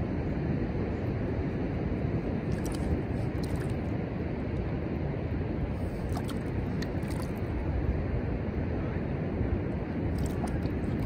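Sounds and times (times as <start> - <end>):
wind at the shore: 0.0 - 11.0
ocean surf rumbling: 1.6 - 11.0.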